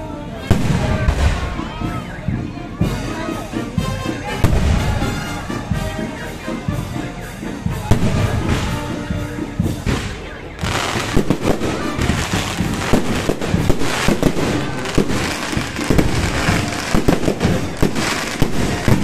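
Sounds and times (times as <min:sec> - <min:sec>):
fireworks bangs and pops: 0:00.4 - 0:06.3, 0:07.8 - 0:19.0.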